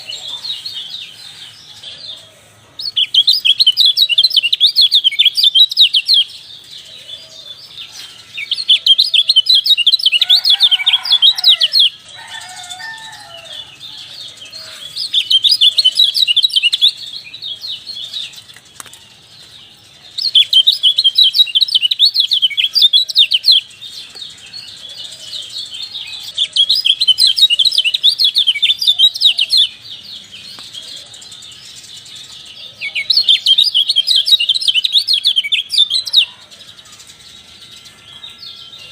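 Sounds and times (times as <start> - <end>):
songbird rapid high chirps: 0.0 - 38.9.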